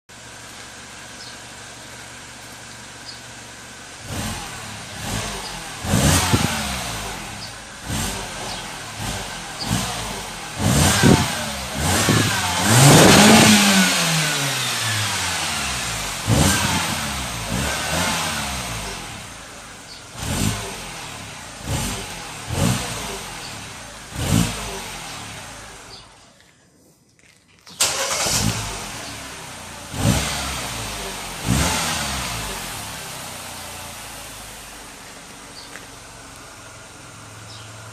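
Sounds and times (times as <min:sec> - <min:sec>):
car engine idling and revving: 0:00.1 - 0:26.5, 0:27.8 - 0:37.9.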